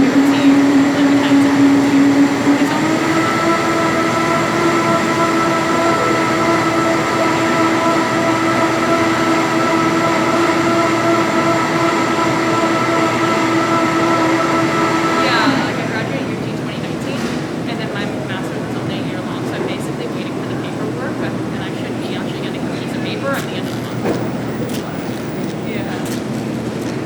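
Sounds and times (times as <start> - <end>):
electric motor whine: 0.0 - 16.8, 19.0 - 27.0
rail car rumble: 0.0 - 27.0.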